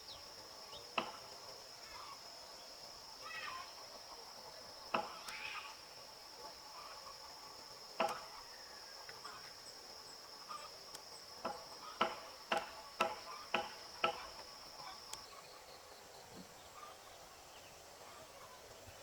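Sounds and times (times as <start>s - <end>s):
insect trilling: 0.0s - 16.2s.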